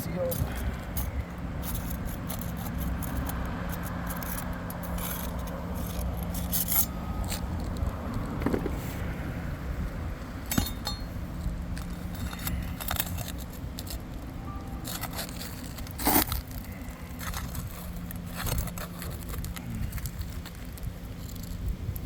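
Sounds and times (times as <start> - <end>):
tool scraping asphalt shingles: 0.1 - 9.0, 10.5 - 21.7.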